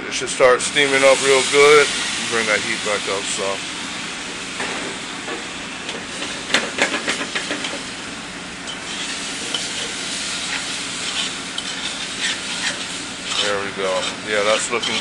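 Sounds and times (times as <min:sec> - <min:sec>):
liquid sizzling in a saucepan: 0:00.8 - 0:15.0.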